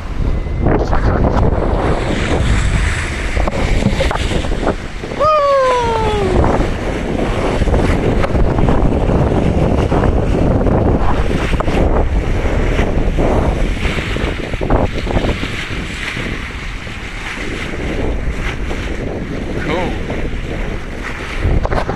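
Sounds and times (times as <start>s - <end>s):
sea water splashing along a bow: 0.0s - 21.9s
wind buffeting microphone: 0.0s - 21.9s.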